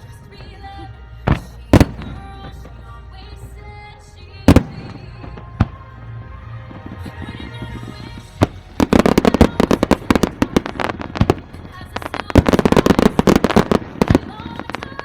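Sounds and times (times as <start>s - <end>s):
fireworks bangs: 0.0s - 15.0s
music playing: 0.0s - 15.0s.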